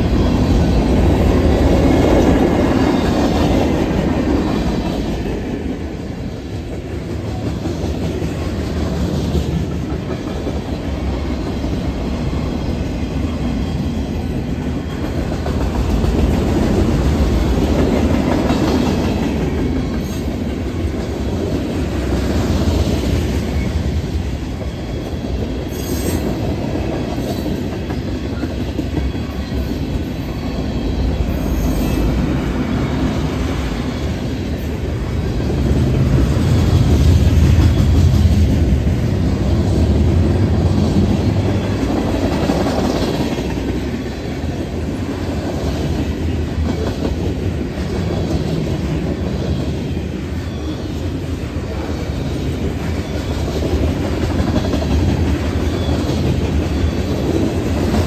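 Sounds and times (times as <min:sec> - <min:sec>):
freight train cars rumbling past: 0:00.0 - 0:58.0.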